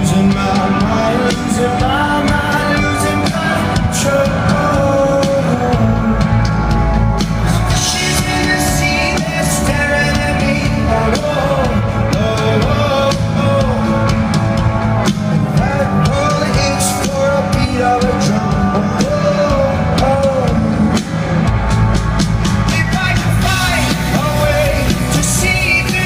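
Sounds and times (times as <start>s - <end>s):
man singing: 0.0s - 21.5s, 22.5s - 26.0s
bass: 0.0s - 26.0s
drums: 0.0s - 26.0s
guitars: 0.0s - 26.0s.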